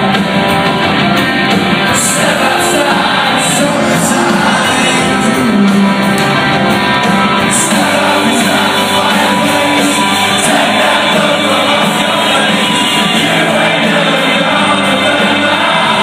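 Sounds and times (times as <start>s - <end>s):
live rock band with singing: 0.0s - 16.0s.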